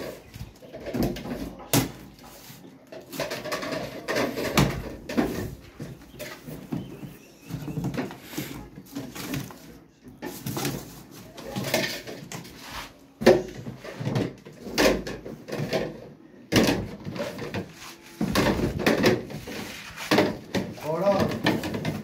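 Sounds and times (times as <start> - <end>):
pipe fittings clattering and knocking: 0.0 - 2.2, 2.8 - 10.9, 13.2 - 22.0.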